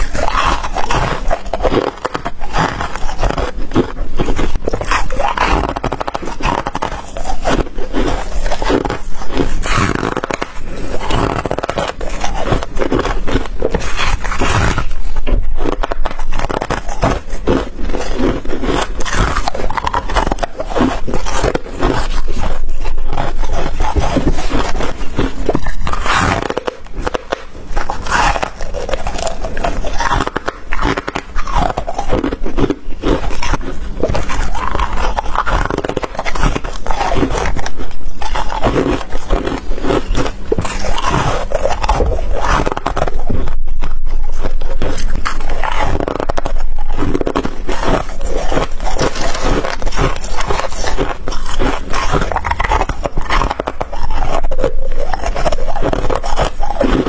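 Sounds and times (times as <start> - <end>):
ice crunching between teeth: 0.0 - 57.0.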